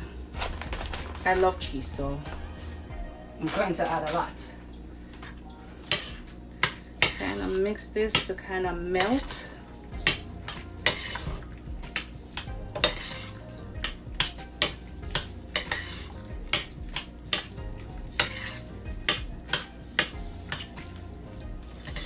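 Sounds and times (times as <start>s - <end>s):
wet scraping of pasta: 2.5s - 8.3s, 9.0s - 22.0s.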